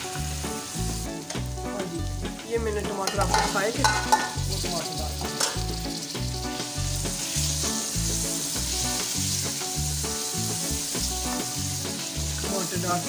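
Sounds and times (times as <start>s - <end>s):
onions and tomatoes sizzling in oil: 0.0s - 13.0s.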